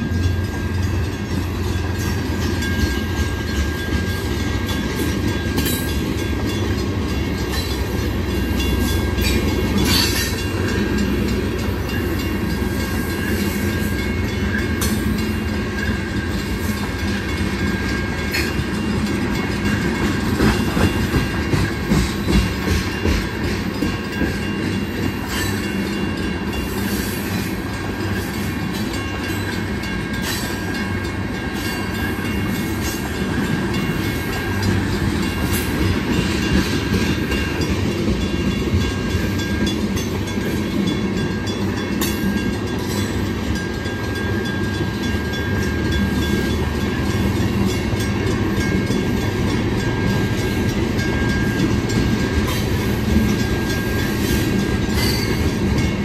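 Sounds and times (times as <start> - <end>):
train wheel and rail noise: 0.0 - 56.0.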